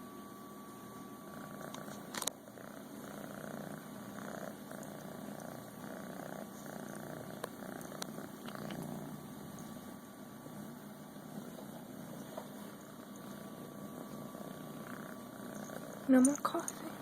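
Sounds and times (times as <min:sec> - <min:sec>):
cat purring: 0:01.0 - 0:17.0.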